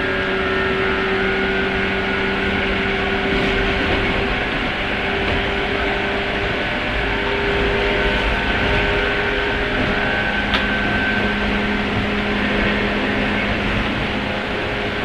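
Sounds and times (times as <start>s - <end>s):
traction motor hum and whine: 0.0s - 15.0s
train wheels rumbling on rail: 0.0s - 15.0s.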